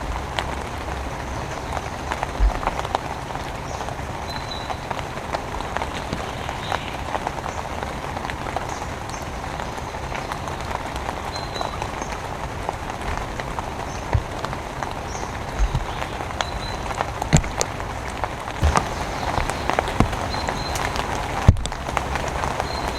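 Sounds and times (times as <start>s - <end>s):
rain drops pattering: 0.0s - 22.9s.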